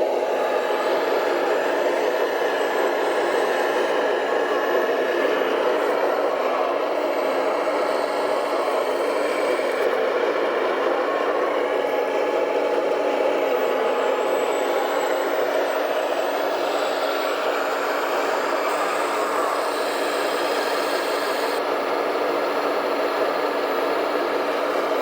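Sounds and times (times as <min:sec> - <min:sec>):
electric motors whirring: 0:00.0 - 0:25.0
faint whine: 0:00.0 - 0:25.0.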